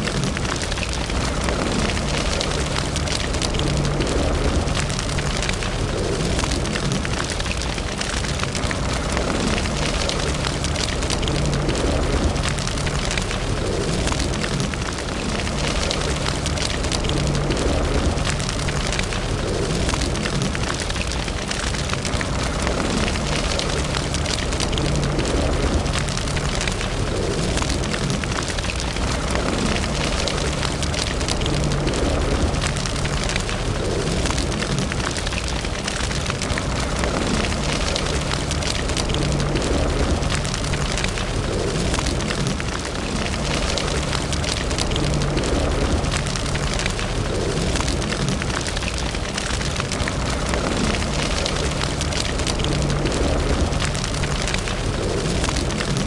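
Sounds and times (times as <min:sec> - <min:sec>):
fire rushing: 0:00.0 - 0:56.0
logs crackling and popping: 0:00.0 - 0:56.0.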